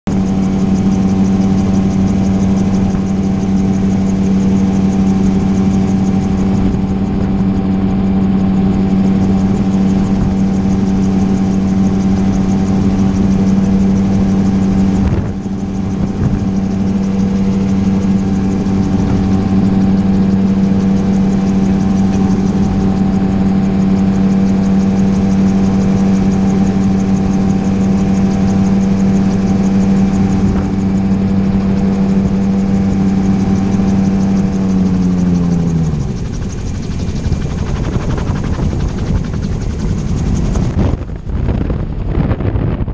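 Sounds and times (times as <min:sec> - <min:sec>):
gyroplane engine and propeller drone: 0:00.0 - 0:42.9.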